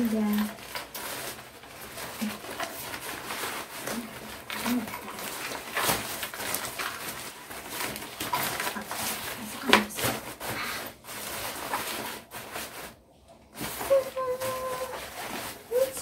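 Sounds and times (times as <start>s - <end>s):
rain cover rustling and crinkling: 0.0s - 16.0s.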